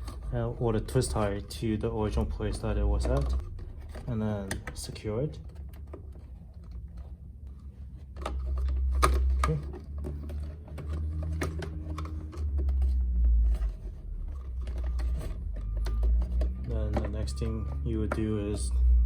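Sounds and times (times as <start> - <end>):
light clicks and handling noises: 0.0 - 19.0.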